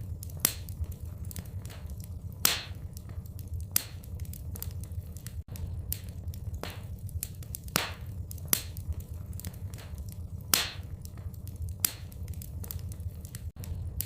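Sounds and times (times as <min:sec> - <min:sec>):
fire popping sharply: 0:00.0 - 0:14.0
fireplace fire crackling: 0:00.0 - 0:14.0
low steady rumble: 0:00.0 - 0:14.0.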